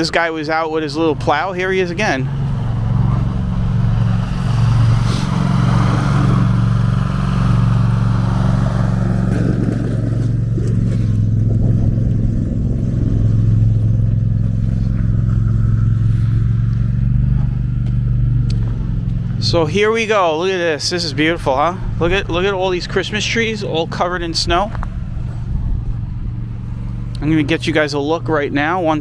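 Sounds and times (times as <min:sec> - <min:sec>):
snowplow engine running: 0:00.0 - 0:29.0.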